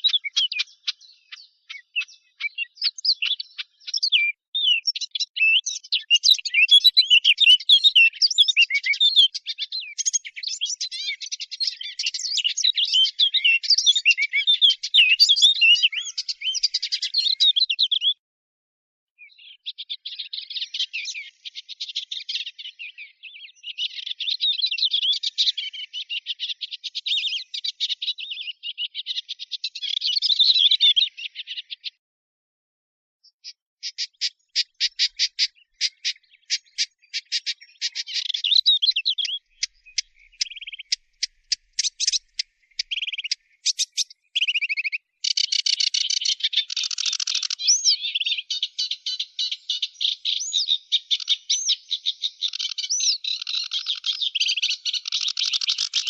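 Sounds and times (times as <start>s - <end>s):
warbler twittering song: 0.0s - 18.2s, 19.2s - 32.0s, 33.2s - 56.0s.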